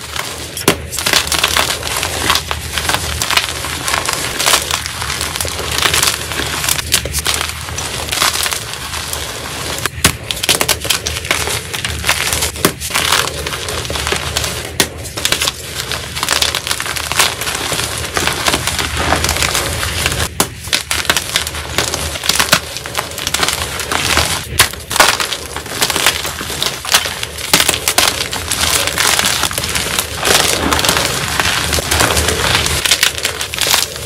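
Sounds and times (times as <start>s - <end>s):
chalk crunching in hands: 0.0s - 34.0s.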